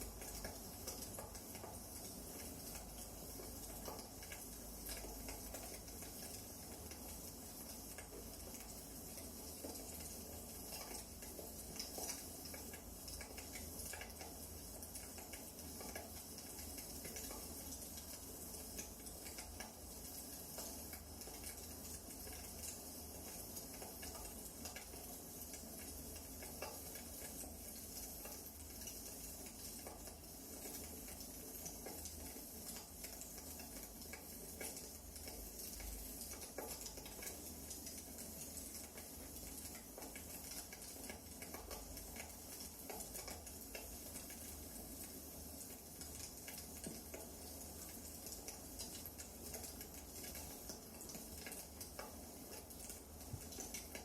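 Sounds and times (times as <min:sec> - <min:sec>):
faint fire hiss: 0:00.0 - 0:54.0
wood fire crackling: 0:00.0 - 0:54.0.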